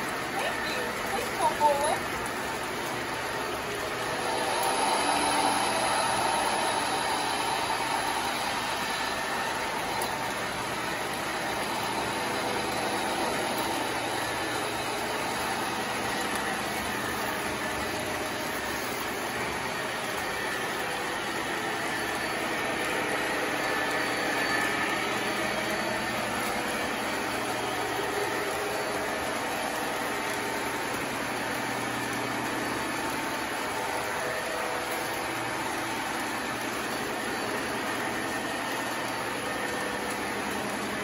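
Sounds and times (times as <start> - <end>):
small electric motor humming: 0.0 - 41.0.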